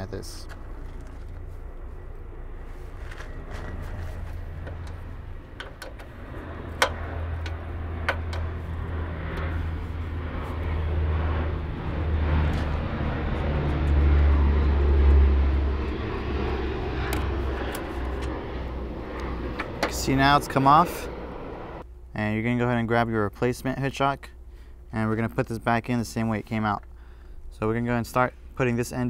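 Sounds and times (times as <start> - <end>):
low engine rumble: 0.0 - 28.8.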